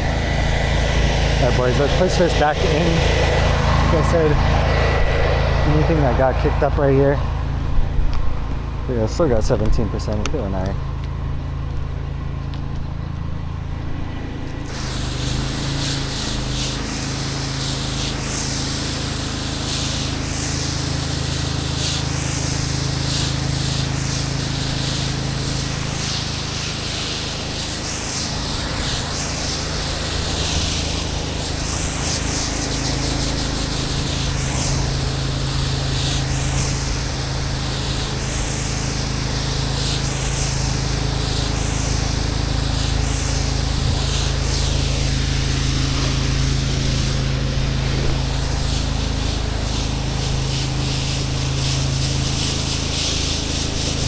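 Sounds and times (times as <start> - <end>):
engine humming: 0.0 - 54.0
pressure washer spraying water: 0.0 - 54.0.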